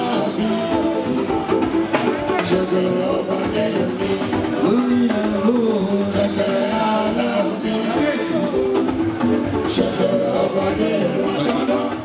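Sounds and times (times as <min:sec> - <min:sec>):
drums: 0:00.0 - 0:12.0
electric guitars: 0:00.0 - 0:12.0
person singing: 0:00.0 - 0:12.0.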